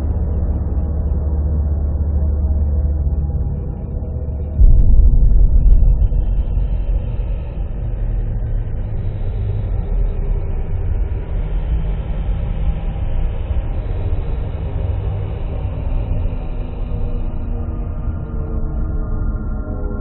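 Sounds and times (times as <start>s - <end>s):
dark electronic drone: 0.0s - 20.0s.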